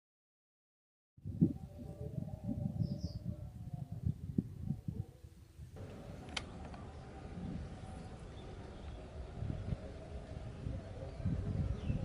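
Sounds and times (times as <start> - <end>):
wind buffeting microphone: 1.2 - 12.0.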